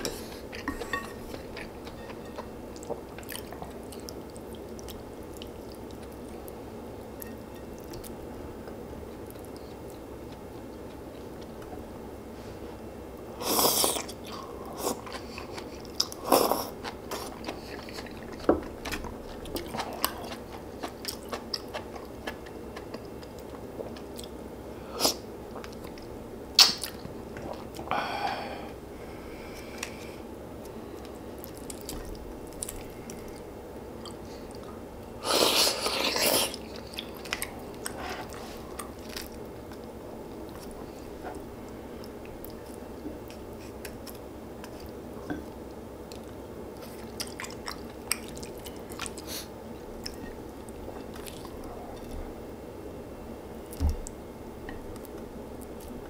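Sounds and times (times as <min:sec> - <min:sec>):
person chewing food: 0:00.0 - 0:11.7, 0:13.5 - 0:24.4, 0:29.5 - 0:52.4.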